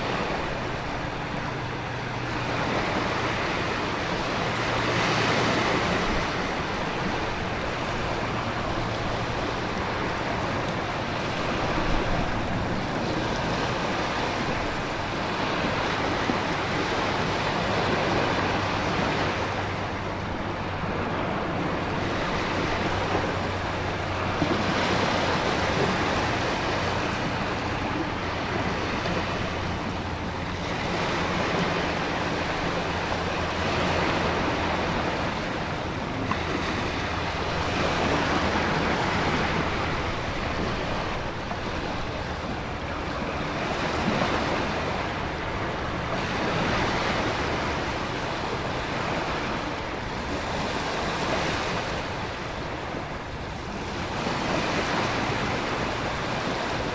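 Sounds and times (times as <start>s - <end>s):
surf swells: 0.0s - 56.9s
wind: 0.0s - 56.9s.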